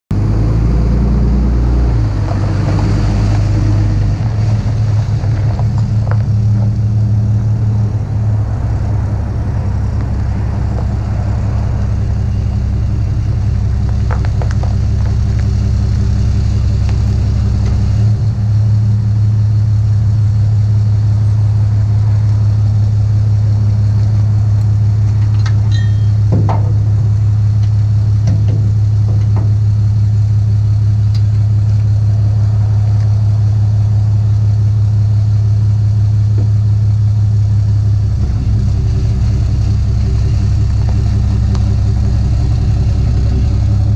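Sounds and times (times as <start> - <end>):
diesel engine running: 0.1 - 43.9.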